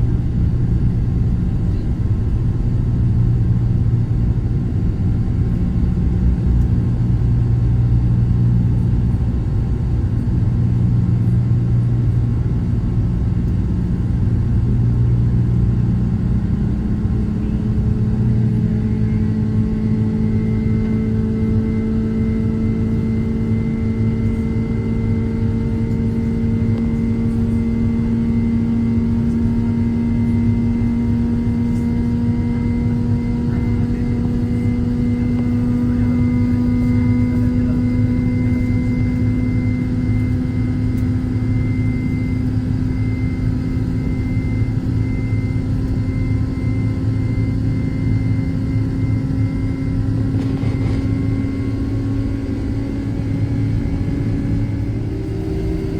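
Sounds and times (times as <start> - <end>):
jet airliner cabin engine rumble: 0.0 - 55.9.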